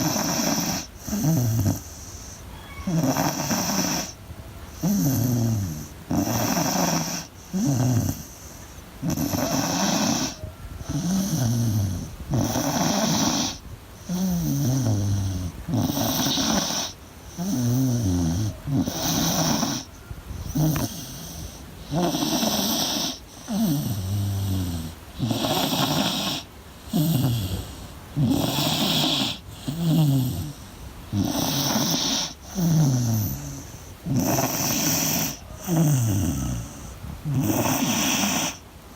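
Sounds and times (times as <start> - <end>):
dog snoring: 0.0 - 38.6.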